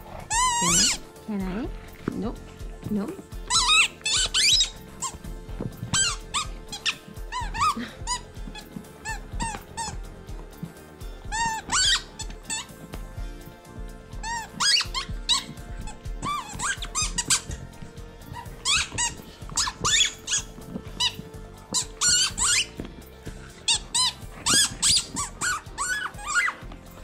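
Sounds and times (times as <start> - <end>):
squeaky rubber toy squeaking: 0.1 - 27.0.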